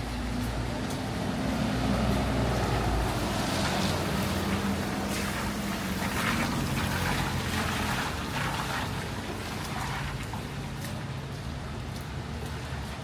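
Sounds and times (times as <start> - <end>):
hiss of wet street: 0.1 - 13.0.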